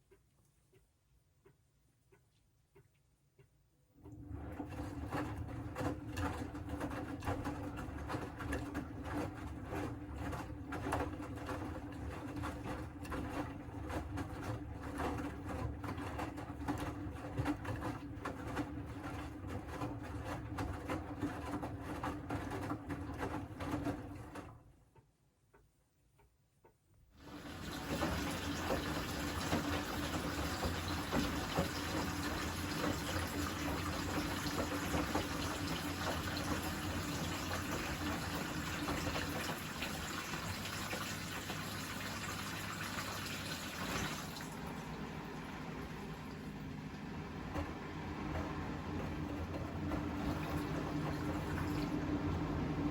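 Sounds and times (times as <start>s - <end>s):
washing machine drum motor: 3.9s - 24.8s, 27.2s - 52.9s
water rushing through machine: 4.0s - 24.5s, 27.2s - 52.9s.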